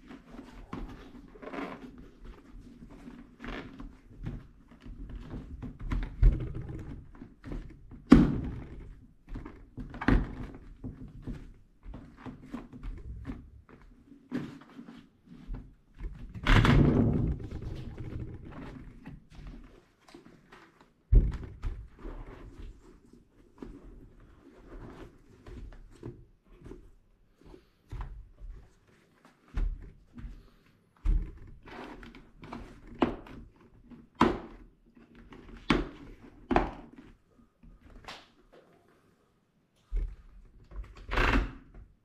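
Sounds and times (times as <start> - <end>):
helmet handling knocks and rustles: 0.0 - 38.9.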